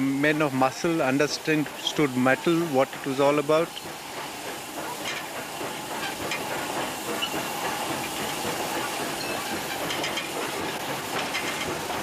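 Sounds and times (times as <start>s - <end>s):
hiss of escaping steam: 0.0s - 12.0s.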